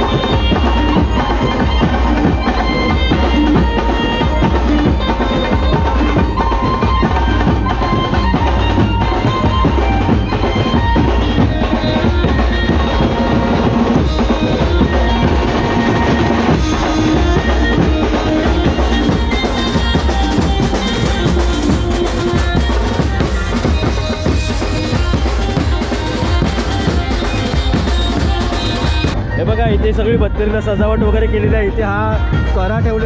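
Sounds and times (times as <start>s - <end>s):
street band drumming: 0.0s - 33.0s.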